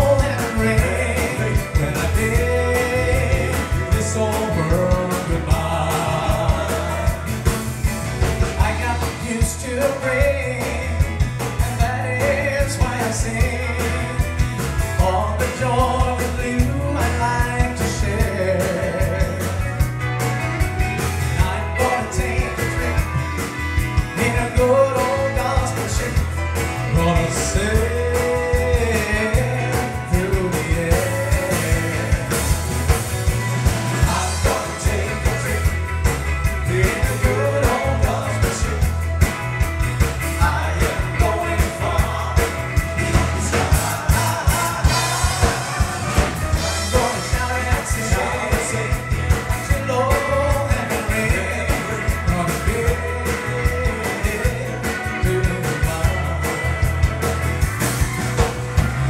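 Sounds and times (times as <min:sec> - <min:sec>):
country-gospel song played live: 0:00.0 - 0:59.0.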